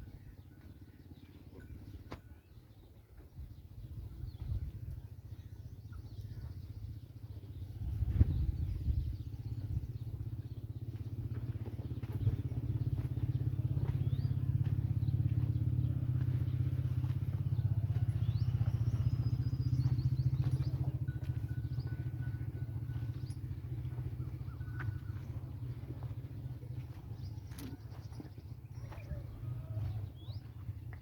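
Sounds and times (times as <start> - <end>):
low engine throbbing: 3.7 - 31.0.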